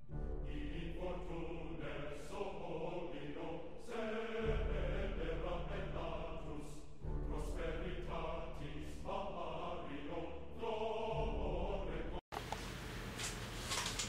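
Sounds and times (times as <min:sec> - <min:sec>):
choir singing slow chords: 0:00.0 - 0:12.2.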